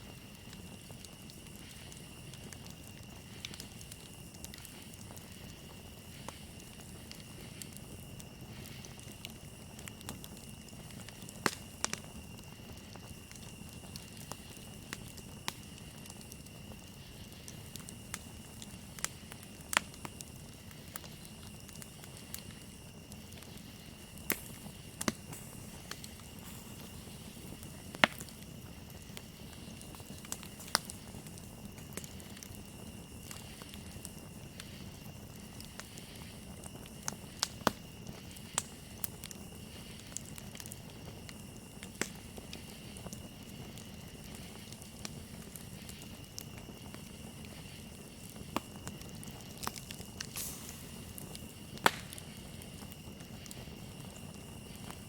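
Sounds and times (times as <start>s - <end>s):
campfire crackling and popping: 0.0s - 55.0s
crickets trilling: 0.0s - 55.0s.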